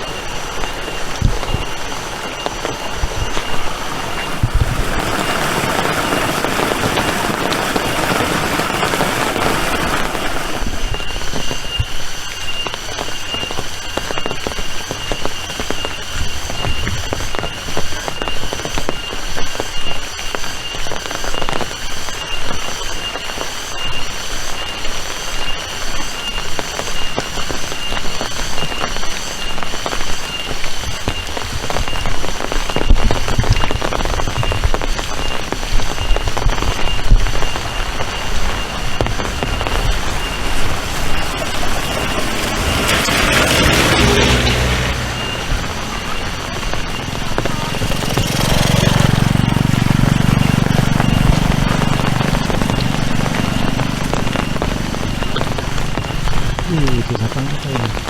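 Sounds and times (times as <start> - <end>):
heavy rain hiss: 0.0 - 58.0
raindrops hitting close: 0.0 - 58.0.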